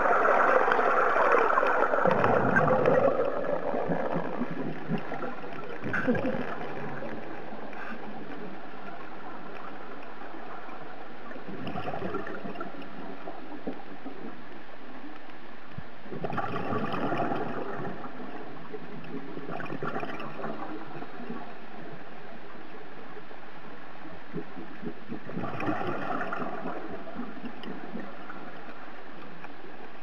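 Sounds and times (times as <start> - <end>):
scuba regulator bubbles gurgling: 0.0 - 30.0
steady underwater rushing: 0.0 - 30.0.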